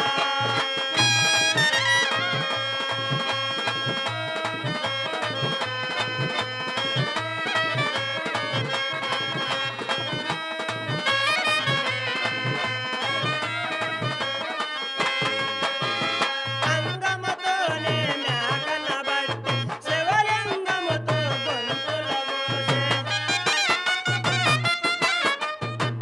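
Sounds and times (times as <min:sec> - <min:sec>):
harmonium held notes: 0:00.0 - 0:26.0
tabla beat: 0:00.0 - 0:26.0.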